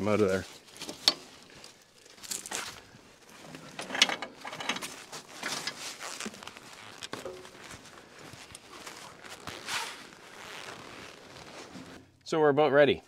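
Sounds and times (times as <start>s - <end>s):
rubber hoses rustling and scraping: 0.0s - 12.3s.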